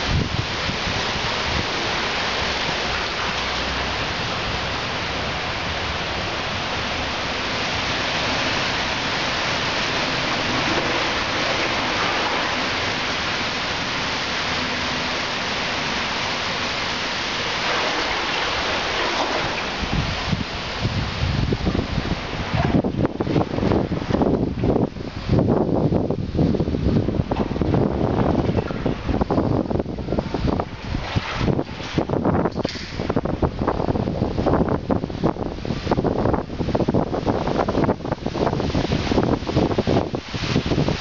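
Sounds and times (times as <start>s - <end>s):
low rumbling bumps: 0.0s - 41.0s
rain and running water: 0.0s - 41.0s.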